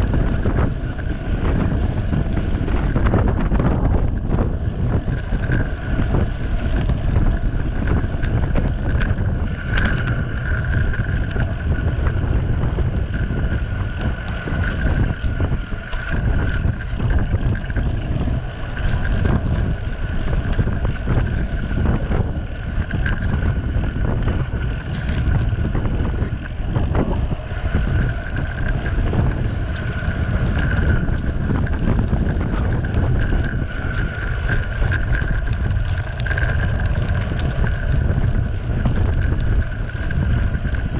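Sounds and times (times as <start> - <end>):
bicycle tyres rumbling on gravel: 0.0 - 40.9
high whine: 0.0 - 40.9
wind buffeting microphone: 0.0 - 40.9.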